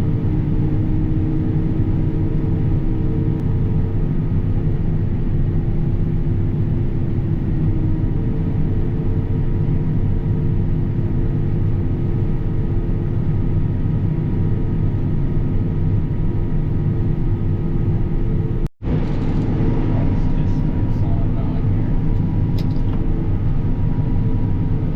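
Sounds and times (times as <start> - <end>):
combine harvester drone: 0.0 - 24.9.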